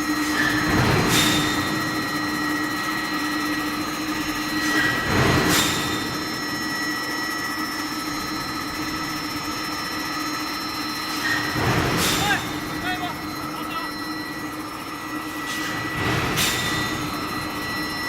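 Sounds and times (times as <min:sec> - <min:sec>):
electrical hum and whine: 0:00.0 - 0:18.0
machinery noise: 0:00.0 - 0:18.0.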